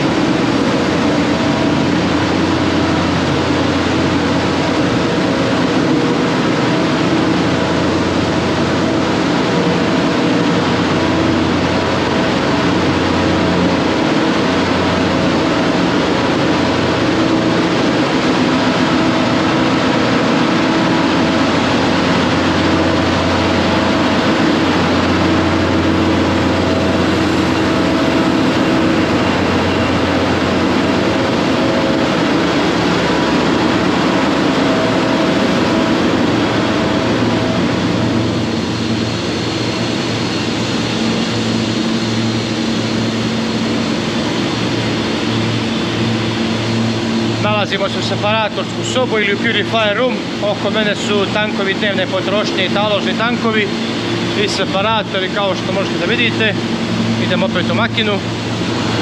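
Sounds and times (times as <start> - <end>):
engine-room machinery hum: 0.0 - 59.0.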